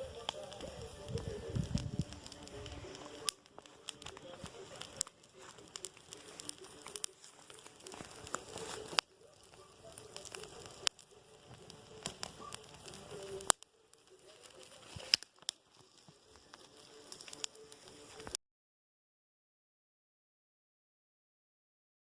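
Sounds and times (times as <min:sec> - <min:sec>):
wood fire crackling and popping: 0:00.0 - 0:18.4.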